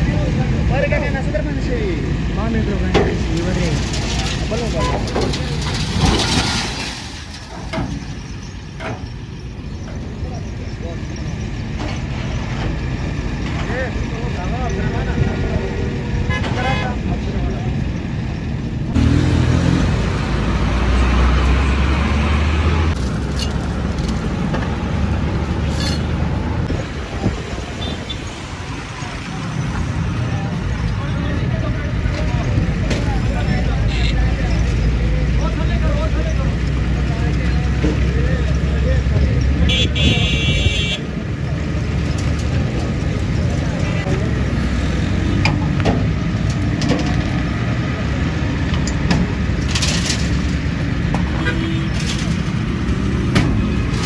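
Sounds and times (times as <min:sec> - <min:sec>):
vehicle engine low rumble: 0:00.0 - 0:54.0.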